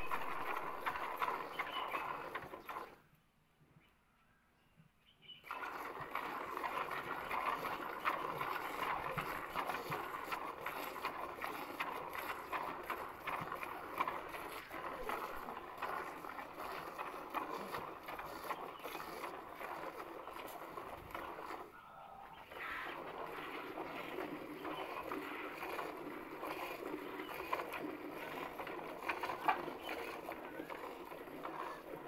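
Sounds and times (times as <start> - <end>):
milk squirting into bucket: 0.0 - 3.0, 5.4 - 21.7, 22.4 - 32.0.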